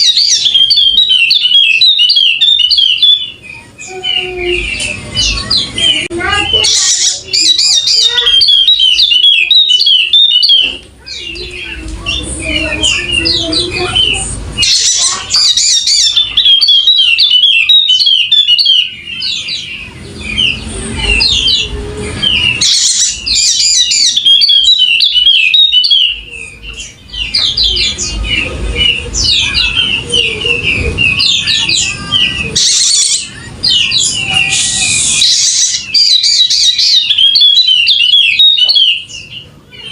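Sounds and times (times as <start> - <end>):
bird chattering warbles: 0.0 - 39.9.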